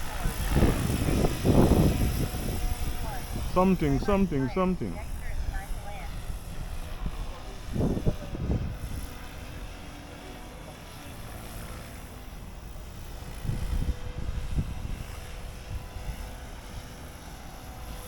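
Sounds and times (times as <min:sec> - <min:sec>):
model helicopter motor whine: 0:00.0 - 0:03.5, 0:05.0 - 0:18.0.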